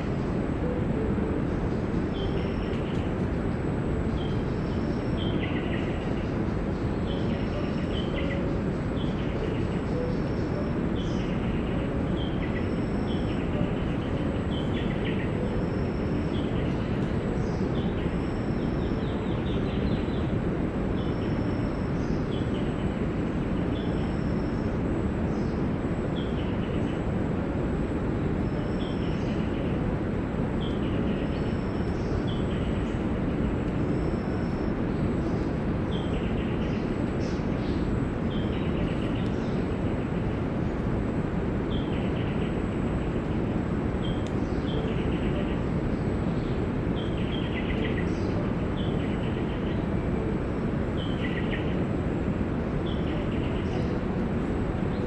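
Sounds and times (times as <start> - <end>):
low rushing background: 0.0 - 55.0.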